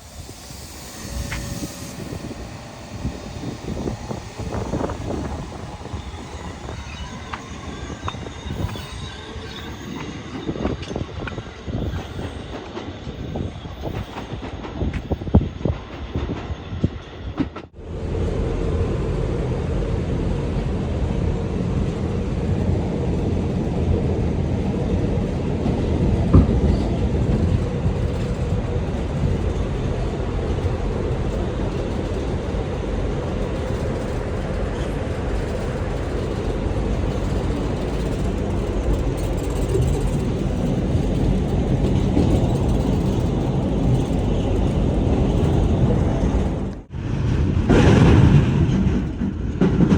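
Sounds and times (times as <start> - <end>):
subway train rumbling on track: 0.0 - 49.9.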